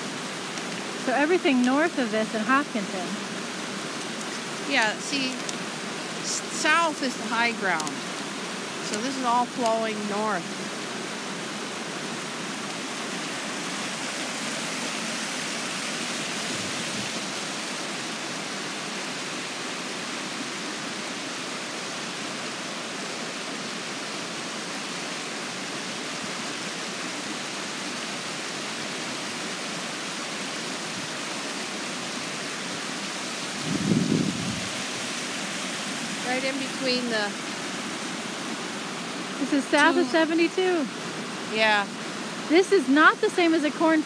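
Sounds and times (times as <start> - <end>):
brook flowing water: 0.0 - 44.0.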